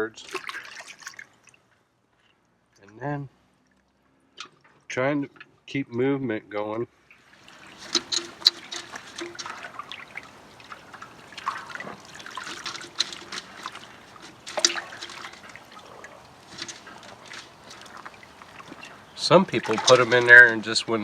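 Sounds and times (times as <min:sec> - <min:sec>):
water dripping: 0:00.0 - 0:01.8, 0:02.4 - 0:05.7, 0:06.7 - 0:21.0
water sloshing and splashing: 0:00.0 - 0:05.7, 0:06.8 - 0:21.0.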